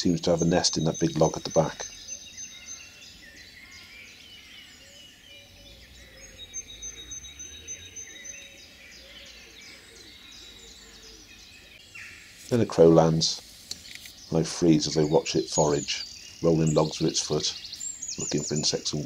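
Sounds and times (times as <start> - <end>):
high bird chirps: 0.0 - 19.0.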